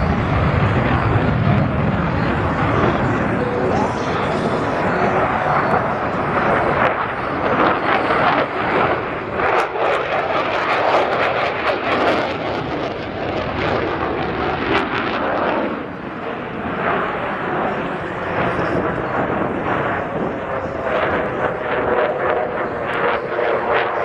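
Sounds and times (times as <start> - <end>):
aircraft engine rushing: 0.0 - 24.0.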